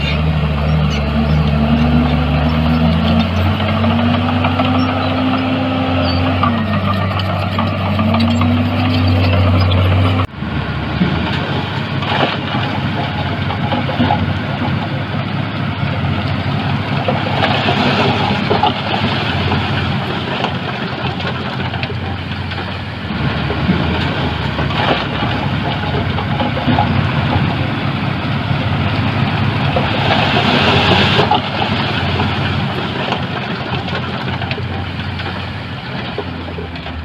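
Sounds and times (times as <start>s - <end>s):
heavy diesel engine revving: 0.0s - 37.0s.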